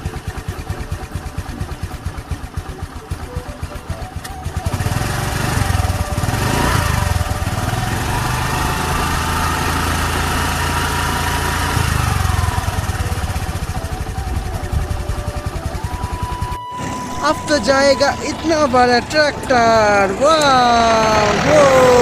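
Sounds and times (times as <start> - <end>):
toy scooter engine pulsing: 0.0 - 22.0.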